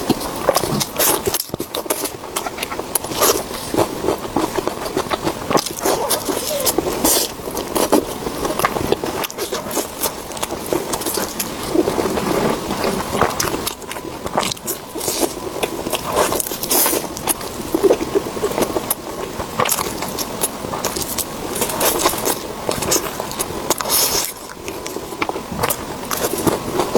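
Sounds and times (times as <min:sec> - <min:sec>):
chewing and biting: 0:00.0 - 0:26.9.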